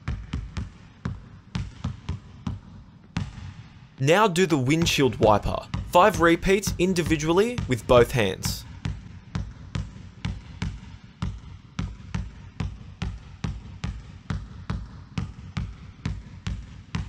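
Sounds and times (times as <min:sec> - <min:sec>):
basketball bouncing on gym floor: 0:00.0 - 0:04.0, 0:04.7 - 0:17.0.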